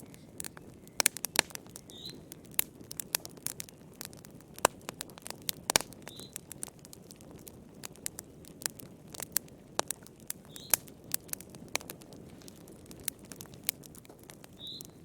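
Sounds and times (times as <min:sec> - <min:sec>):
wood fire popping and snapping: 0:00.0 - 0:15.0.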